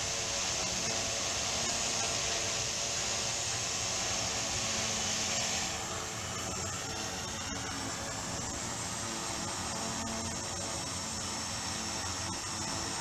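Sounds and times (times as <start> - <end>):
airy hiss: 0.0 - 13.0
drone propellers whirring: 0.0 - 13.0.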